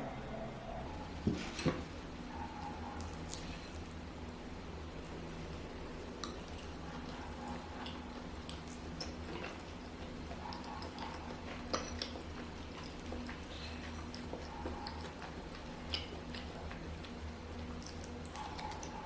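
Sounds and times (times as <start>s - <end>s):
steady low hum: 0.0s - 19.0s
wet chewing mouth sounds: 0.8s - 19.0s.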